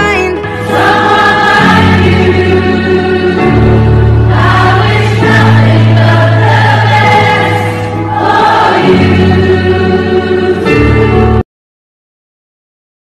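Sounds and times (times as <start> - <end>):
choir singing sustained notes: 0.4 - 11.4.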